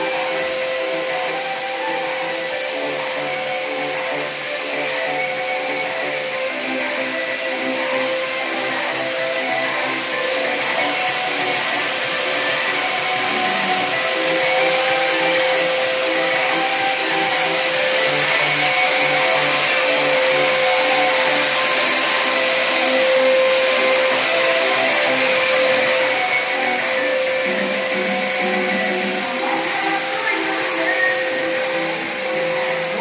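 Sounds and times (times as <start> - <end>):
electric motor whining: 0.0 - 33.0
melodic music: 0.0 - 33.0.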